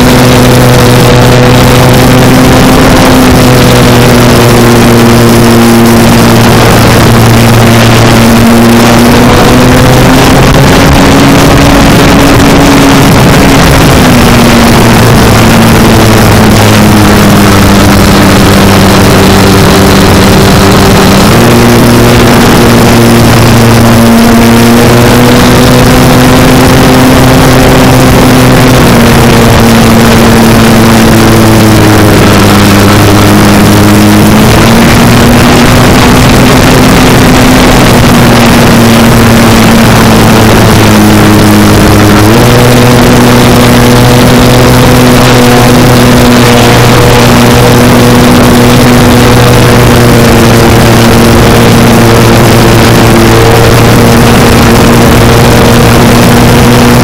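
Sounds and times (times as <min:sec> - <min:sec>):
model plane propeller drone: 0:00.0 - 0:57.0.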